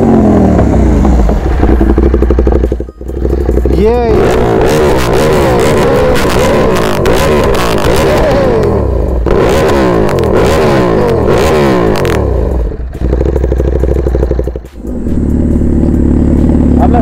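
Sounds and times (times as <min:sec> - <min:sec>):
exhaust popping and crackling: 0:00.0 - 0:17.0
motorcycle engine revving: 0:00.0 - 0:17.0.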